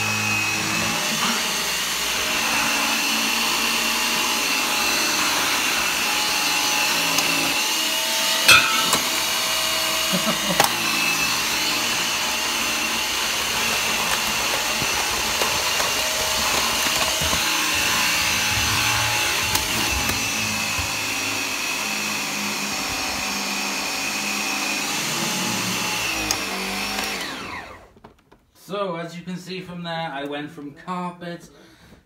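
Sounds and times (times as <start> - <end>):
vacuum cleaner whining: 0.0 - 28.8.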